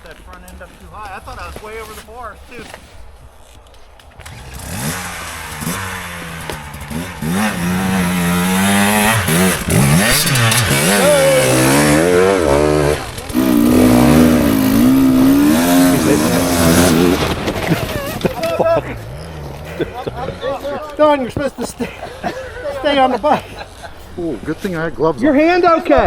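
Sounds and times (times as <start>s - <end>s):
dirt bike engine revving: 2.4s - 26.0s.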